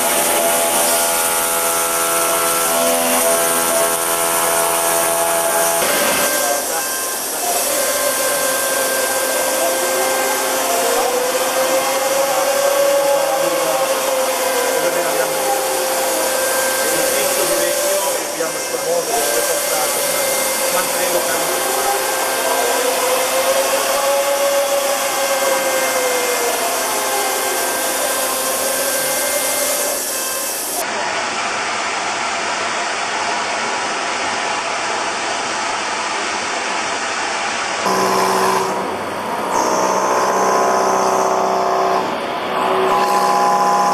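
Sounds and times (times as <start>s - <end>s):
milling spindle whine: 0.0s - 30.8s, 37.9s - 43.9s.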